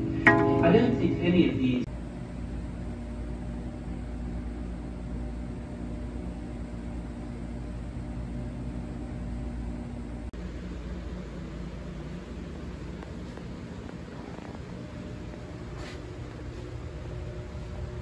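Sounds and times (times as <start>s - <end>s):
low machine hum with hiss: 0.0s - 18.0s.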